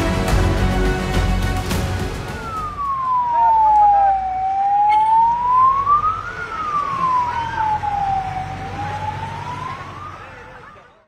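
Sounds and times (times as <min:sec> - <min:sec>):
ambulance siren wailing: 0:01.8 - 0:11.0.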